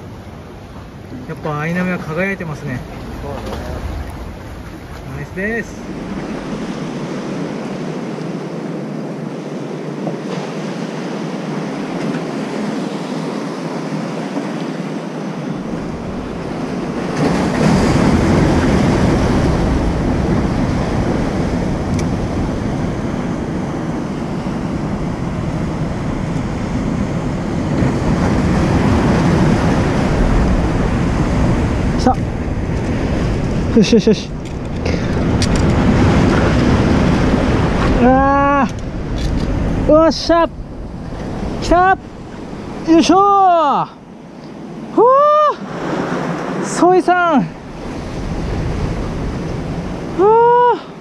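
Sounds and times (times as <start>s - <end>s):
wind on microphone: 0.0s - 43.2s, 47.4s - 51.0s
ocean surf: 0.0s - 51.0s.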